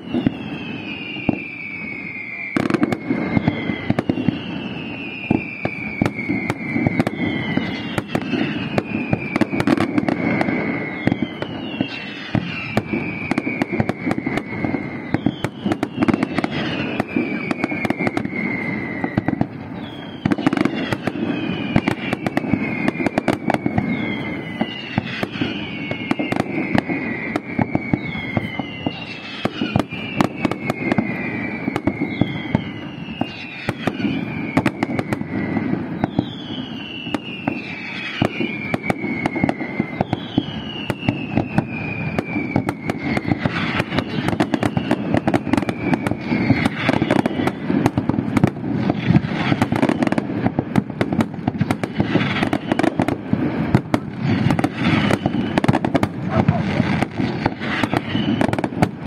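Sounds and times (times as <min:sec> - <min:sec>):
firework whistle sliding down: 0:00.0 - 0:59.0
fireworks bangs and crackling: 0:00.0 - 0:59.0.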